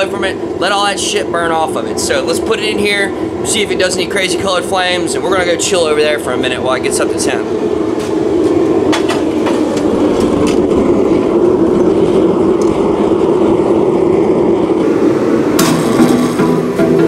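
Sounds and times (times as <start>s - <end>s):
forge blower rushing air: 0.0s - 17.0s.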